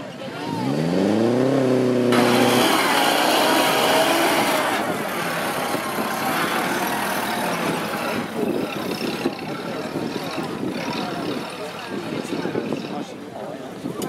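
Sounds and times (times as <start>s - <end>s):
high-revving car engine: 0.4s - 12.9s
car engine pulling under load: 0.7s - 12.6s.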